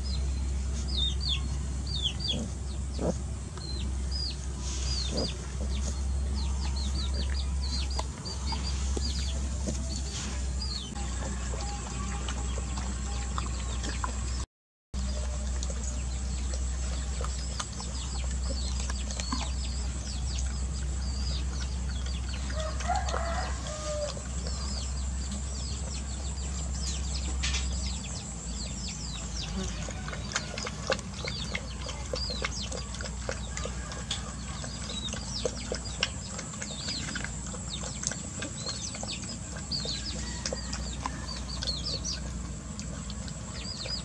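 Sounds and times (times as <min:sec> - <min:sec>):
steady low hum: 0:00.0 - 0:14.4, 0:15.0 - 0:44.0.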